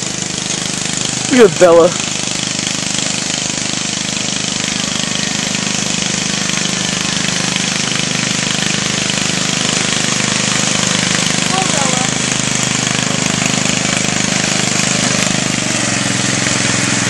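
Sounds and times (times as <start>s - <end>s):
riding lawn mower engine: 0.0s - 17.0s.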